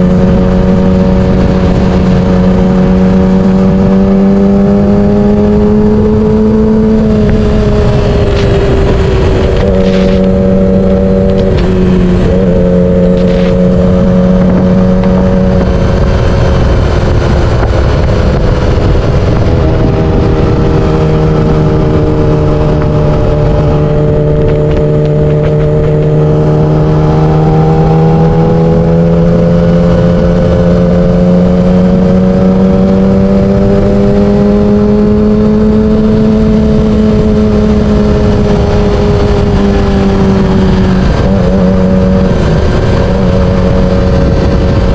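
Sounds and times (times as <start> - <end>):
motorcycle engine cruising: 0.0 - 44.9
wind buffeting on microphone: 0.0 - 44.9.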